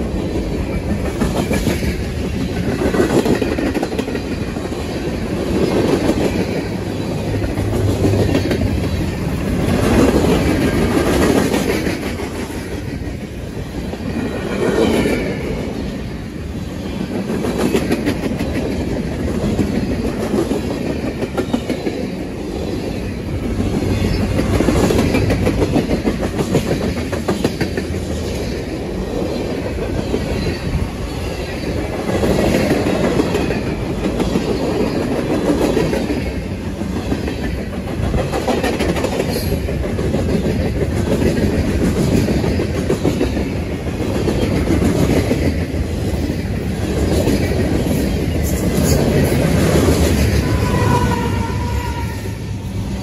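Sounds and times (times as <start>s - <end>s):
freight train wheels on rail: 0.0s - 53.0s.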